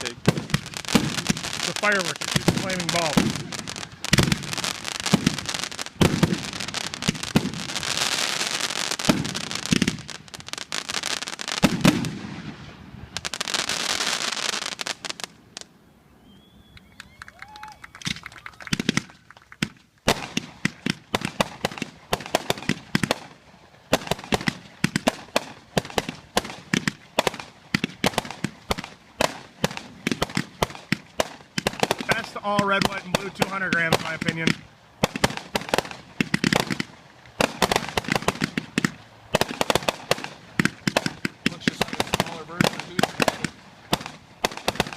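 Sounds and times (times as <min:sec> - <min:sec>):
rapid sharp firework pops: 0:00.0 - 0:12.6, 0:18.0 - 0:44.9
fireworks bursts with crackling fizz: 0:00.0 - 0:15.7, 0:16.8 - 0:44.9.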